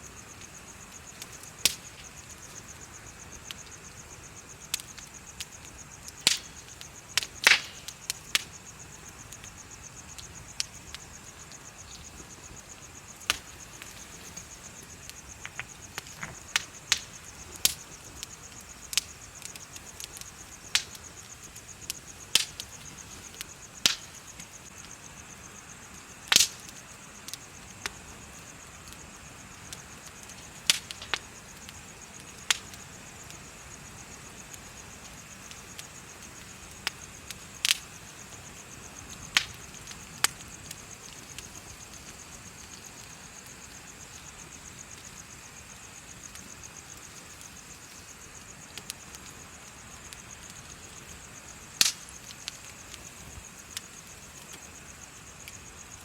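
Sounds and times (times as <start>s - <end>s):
insects chirping: 0.0s - 56.0s
wood fire crackling: 0.0s - 56.0s
fire popping: 0.1s - 56.0s.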